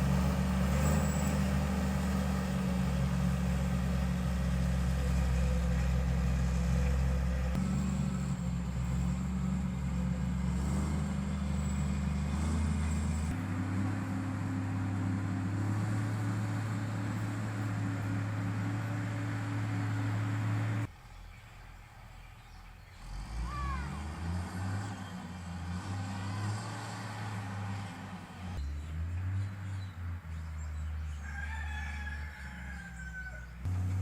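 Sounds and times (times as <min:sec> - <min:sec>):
diesel engine running: 0:00.0 - 0:31.3, 0:33.5 - 0:34.0.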